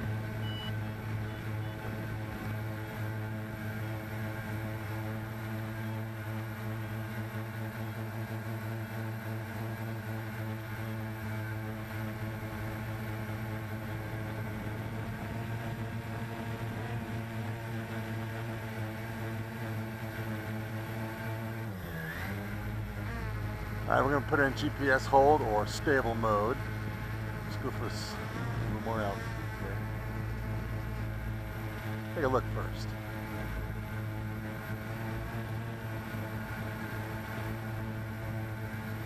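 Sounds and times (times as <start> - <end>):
quadcopter propellers buzzing: 0.0 - 39.0.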